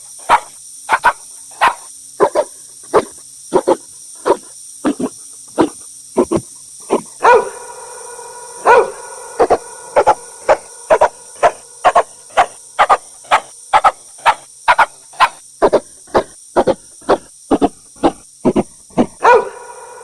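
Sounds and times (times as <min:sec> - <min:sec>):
dog barking: 0:00.2 - 0:05.0, 0:06.9 - 0:07.8, 0:08.6 - 0:18.2, 0:18.9 - 0:20.0.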